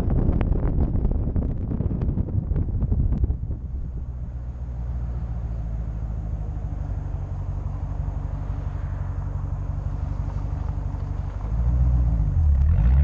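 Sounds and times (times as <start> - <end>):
car engine low drone: 0.0 - 13.0.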